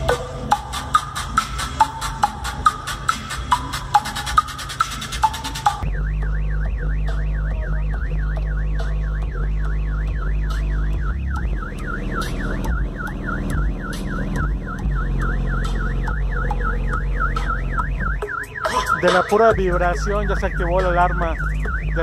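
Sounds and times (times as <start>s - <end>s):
car alarm siren warbling: 0.0s - 22.0s
deep bass music: 0.0s - 22.0s.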